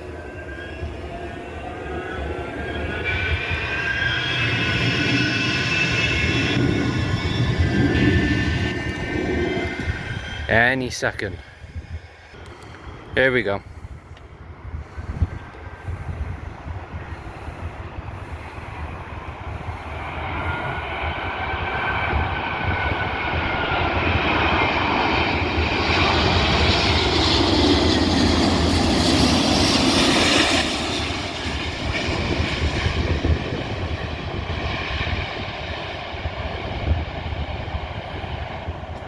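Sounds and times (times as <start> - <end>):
jet engine roar: 0.0 - 39.0
wind rumble on microphone: 0.0 - 39.0.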